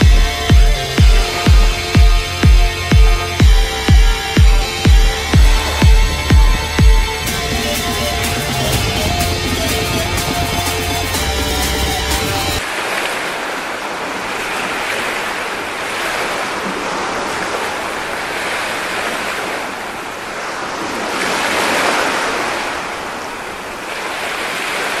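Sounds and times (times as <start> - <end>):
sea waves breaking: 0.0 - 25.0.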